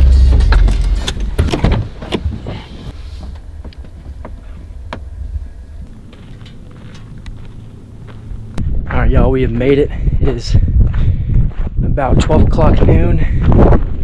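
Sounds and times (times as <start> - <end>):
truck rumble on dirt track: 0.0 - 11.8.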